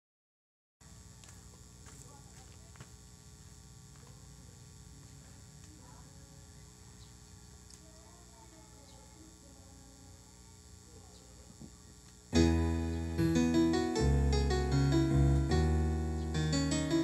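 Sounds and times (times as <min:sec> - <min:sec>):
electrical mains hum: 0:00.8 - 0:17.0.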